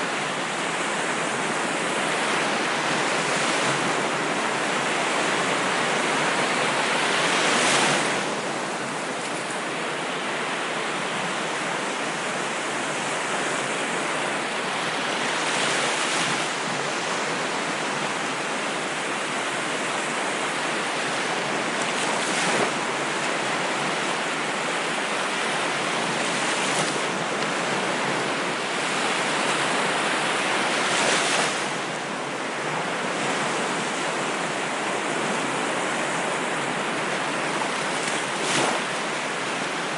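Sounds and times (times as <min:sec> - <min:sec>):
wash of waves: 0:00.0 - 0:39.9
waves breaking: 0:00.0 - 0:39.9.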